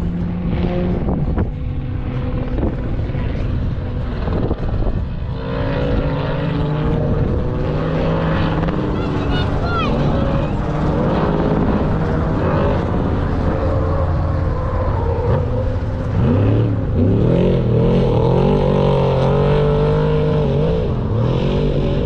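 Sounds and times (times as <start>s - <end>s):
racing vehicle engine revving: 0.0s - 22.0s.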